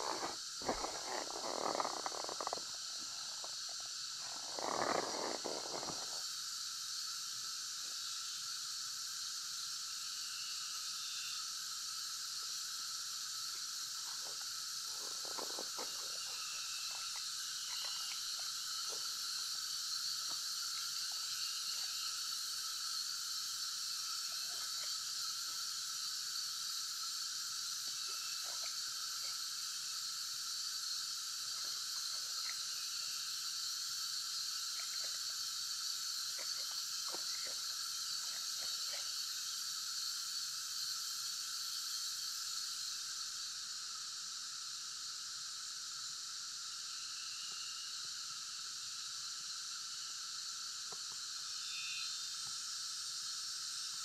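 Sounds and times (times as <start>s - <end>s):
steady high hiss: 0.0s - 54.0s.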